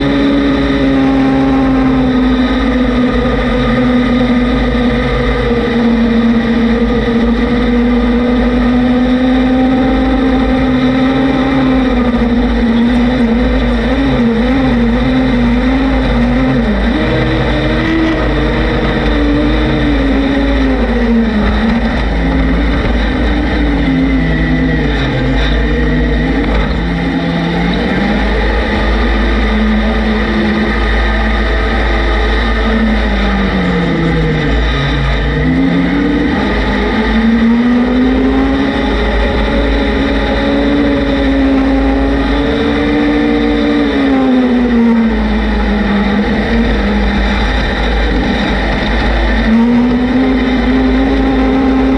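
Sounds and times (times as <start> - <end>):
vehicle engine running: 0.0 - 51.9
wind buffeting microphone: 0.0 - 51.9.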